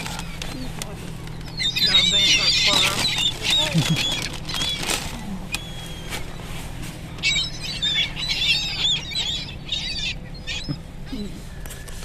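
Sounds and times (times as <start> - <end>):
gulls calling: 0.0 - 12.0
low steady hum: 0.0 - 12.0.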